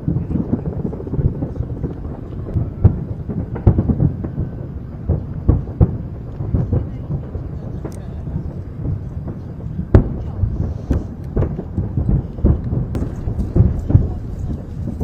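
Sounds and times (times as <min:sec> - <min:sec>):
fireworks booming bangs: 0:00.0 - 0:15.0
low rumble: 0:00.0 - 0:15.0.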